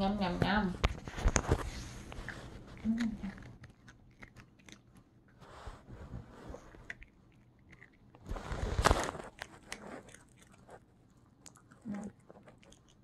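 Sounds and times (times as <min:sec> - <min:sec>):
dog crunching a biscuit: 0:00.9 - 0:05.6, 0:06.4 - 0:13.0.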